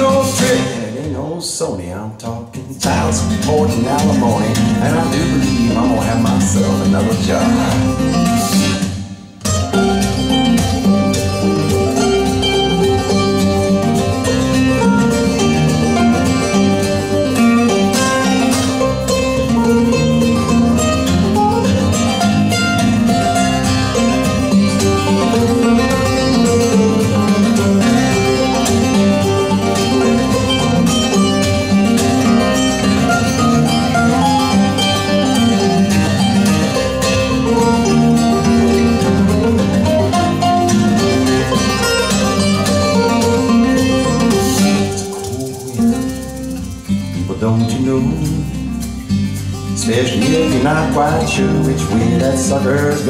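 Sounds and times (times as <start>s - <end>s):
bass: 0.0s - 53.0s
plucked guitar: 0.0s - 53.0s.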